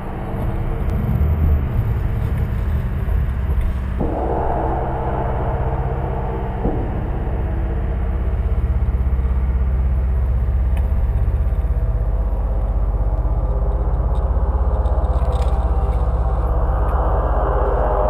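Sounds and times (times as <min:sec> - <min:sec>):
boat engine throbbing: 0:00.0 - 0:18.0.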